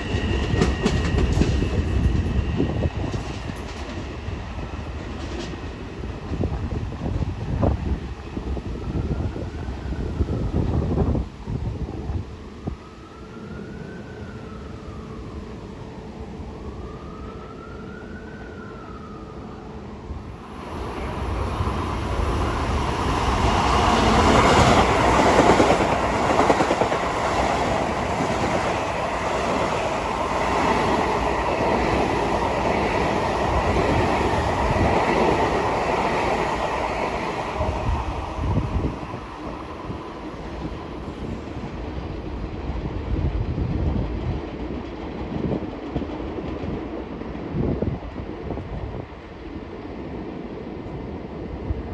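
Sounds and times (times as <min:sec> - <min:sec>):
train passing at speed: 0:00.0 - 0:51.9.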